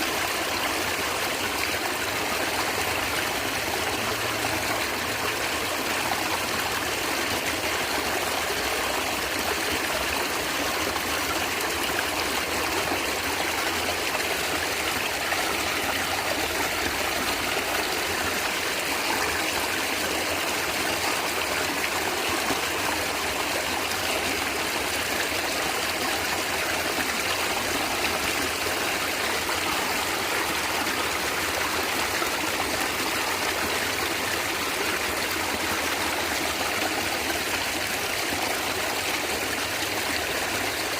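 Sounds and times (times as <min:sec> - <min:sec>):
stream water flowing and gurgling: 0:00.0 - 0:40.9.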